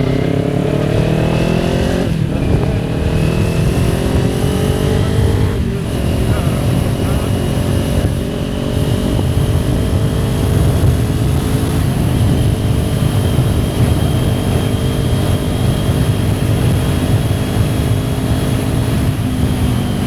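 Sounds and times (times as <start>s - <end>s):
heavy low rumble: 0.0s - 20.0s
motorcycle engine running: 0.0s - 20.0s.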